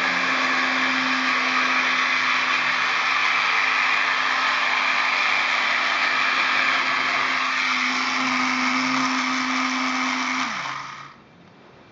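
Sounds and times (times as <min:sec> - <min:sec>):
small electric fan motor humming: 0:00.0 - 0:11.6.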